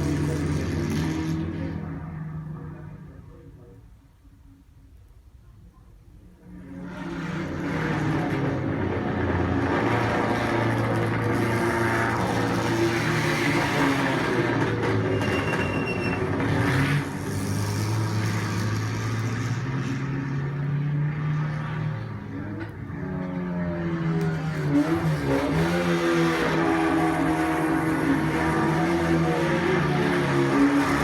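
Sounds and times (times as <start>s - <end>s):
racing car engines downshifting: 0.0s - 3.4s, 6.4s - 31.0s.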